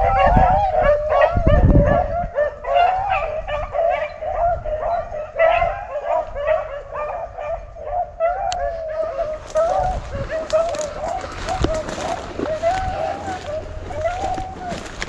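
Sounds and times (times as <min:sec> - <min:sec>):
hounds baying and yelping: 0:00.0 - 0:15.0.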